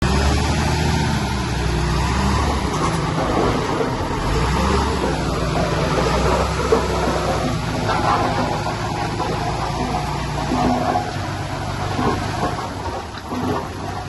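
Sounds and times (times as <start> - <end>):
diesel machinery engine running: 0.0 - 14.0.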